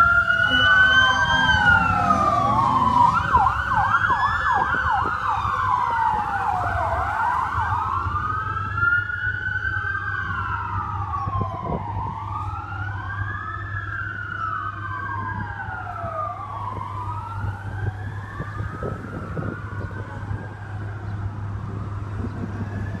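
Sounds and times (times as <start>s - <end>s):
emergency vehicle sirens wailing: 0.0s - 23.0s.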